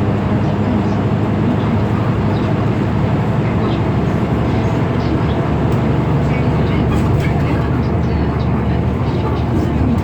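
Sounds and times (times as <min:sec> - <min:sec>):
bus engine drone: 0:00.0 - 0:10.0
road rumble: 0:00.0 - 0:10.0.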